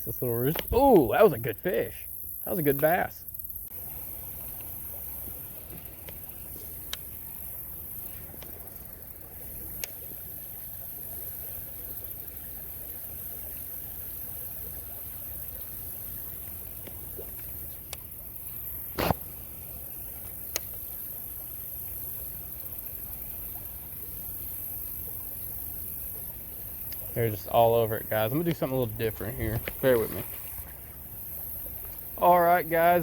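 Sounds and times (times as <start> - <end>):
creek water lapping: 0.0 - 33.0
insects droning: 0.0 - 33.0.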